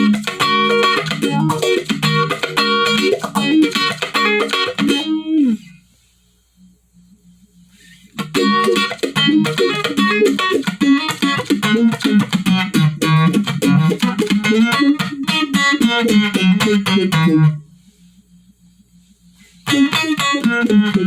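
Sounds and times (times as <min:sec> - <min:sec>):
electric guitar with phaser: 0:00.0 - 0:05.8, 0:07.8 - 0:21.0
faint amp hum: 0:00.0 - 0:21.0.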